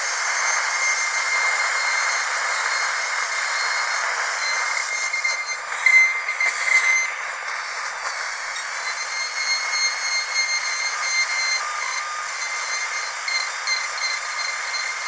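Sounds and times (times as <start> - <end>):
dental drill whining: 0.0 - 15.0.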